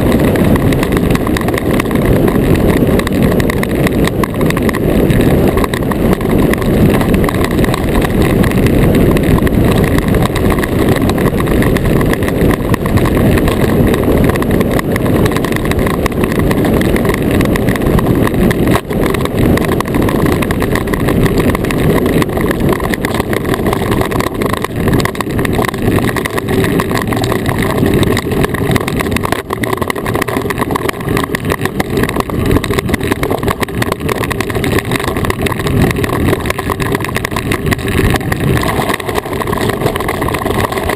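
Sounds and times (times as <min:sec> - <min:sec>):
runners rumbling on ice: 0:00.0 - 0:40.9.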